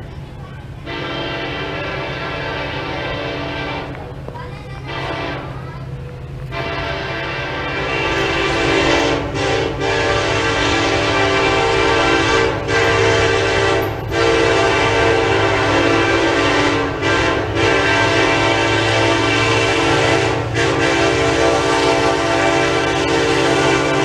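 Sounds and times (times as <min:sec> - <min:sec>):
diesel engine hum: 0:00.0 - 0:24.0
locomotive air horn blasts: 0:00.8 - 0:04.2, 0:04.8 - 0:05.6, 0:06.5 - 0:24.0.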